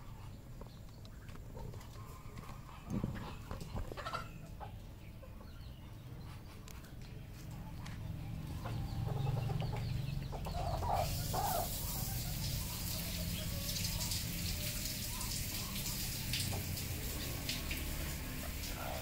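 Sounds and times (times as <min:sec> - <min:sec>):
chicken clucking: 0:00.0 - 0:16.7.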